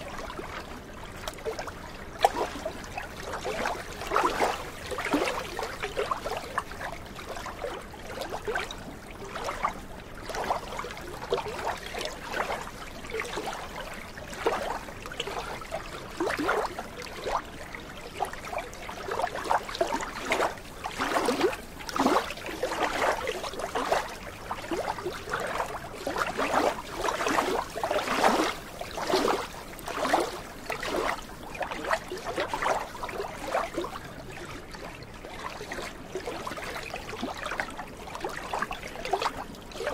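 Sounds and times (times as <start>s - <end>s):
small waves lapping shore: 0.0s - 39.9s.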